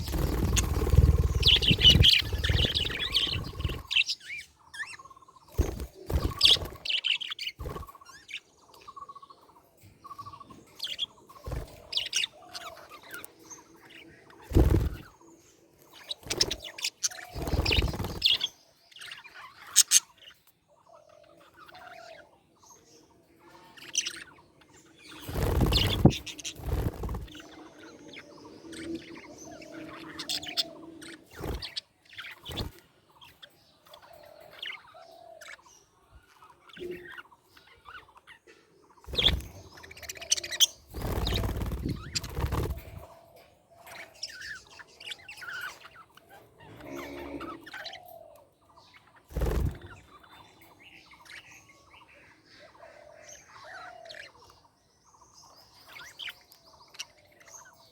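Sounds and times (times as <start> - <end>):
budgerigars chirping: 0.0 - 15.2, 16.0 - 57.9.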